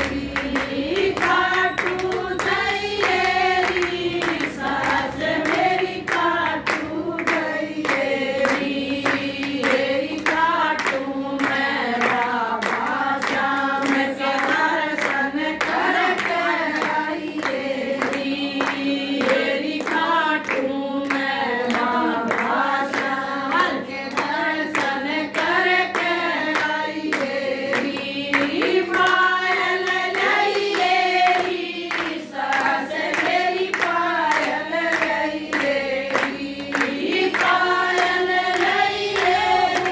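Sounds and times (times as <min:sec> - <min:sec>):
hands clapping in rhythm: 0:00.0 - 0:39.9
women singing devotional song: 0:00.0 - 0:39.9.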